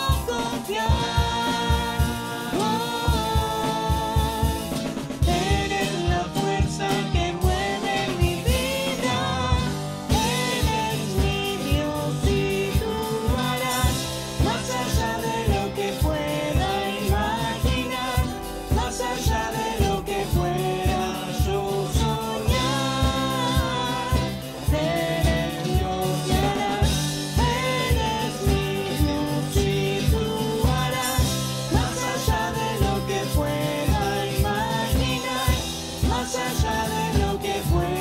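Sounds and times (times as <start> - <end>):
acoustic and electric guitar: 0.0 - 38.0
backing vocals: 0.0 - 38.0
drums: 0.0 - 38.0
keyboard: 0.0 - 38.0
woman singing: 0.0 - 38.0.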